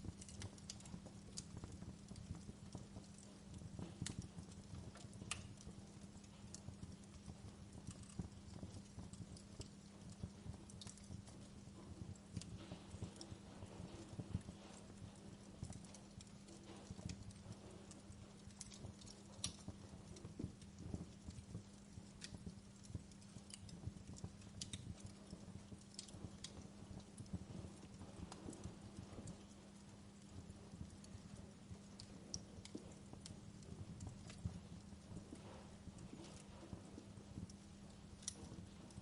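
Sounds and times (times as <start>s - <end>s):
faint steady hum: 0.0s - 39.0s
wood fire crackling: 0.0s - 39.0s.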